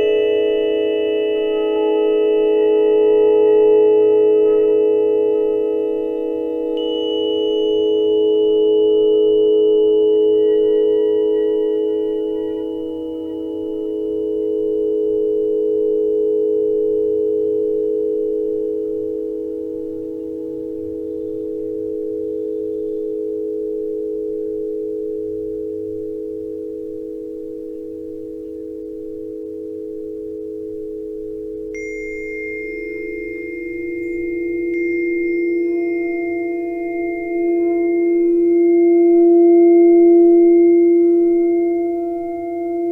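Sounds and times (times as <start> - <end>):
tuning forks ringing: 0.0 - 27.4, 28.0 - 42.9.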